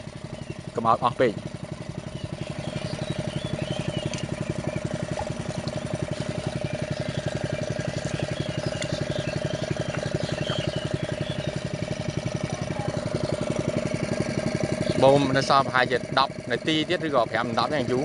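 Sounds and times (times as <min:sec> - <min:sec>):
engine-driven water pump running: 0:00.0 - 0:18.0.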